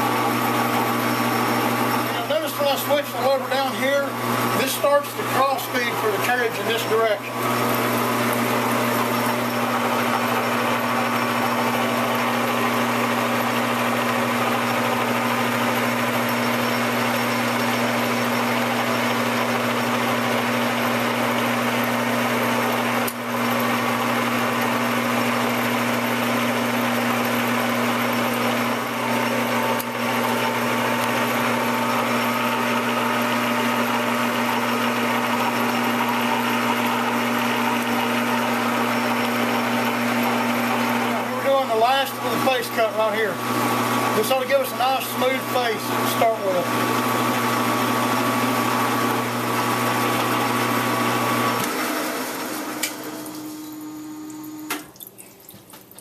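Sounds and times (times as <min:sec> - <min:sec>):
metal lathe humming: 0:00.0 - 0:54.7
coolant flowing: 0:00.0 - 0:56.0.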